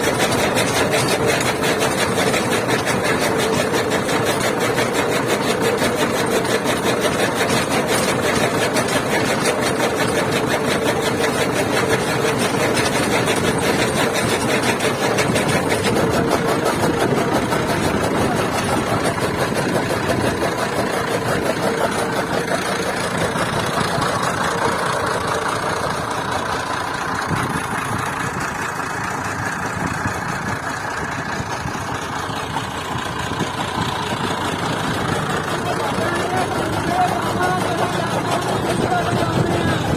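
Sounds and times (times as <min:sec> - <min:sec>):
chaff cutter chopping fodder: 0:00.0 - 0:27.6, 0:31.4 - 0:39.9
tractor diesel engine running: 0:00.0 - 0:39.9.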